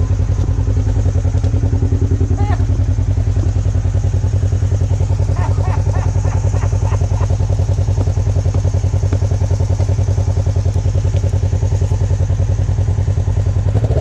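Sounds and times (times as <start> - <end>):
off-road vehicle engine at low revs: 0.0 - 14.0.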